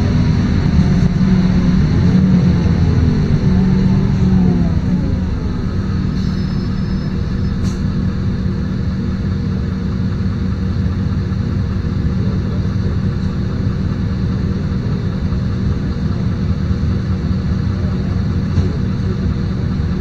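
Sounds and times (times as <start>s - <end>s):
bus diesel engine rumble: 0.0s - 20.0s.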